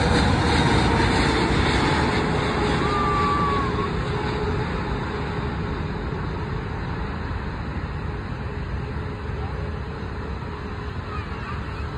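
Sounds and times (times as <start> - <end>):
jet airliner engine rumble: 0.0 - 11.9.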